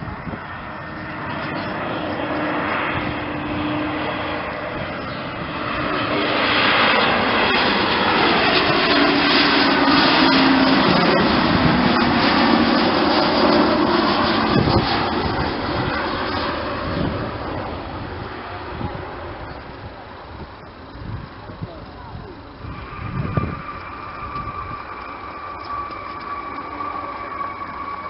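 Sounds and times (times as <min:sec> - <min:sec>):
jet airliner flying past: 0:00.0 - 0:28.0
whining engine tones: 0:00.0 - 0:28.0.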